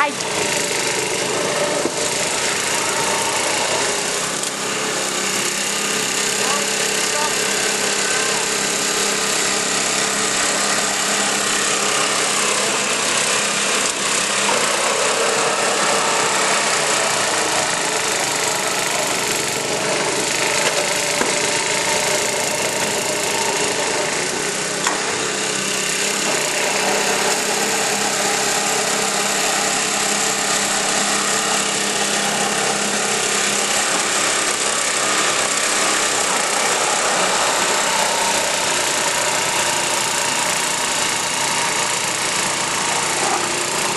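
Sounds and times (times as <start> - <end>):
snow blower engine running: 0.0 - 43.9.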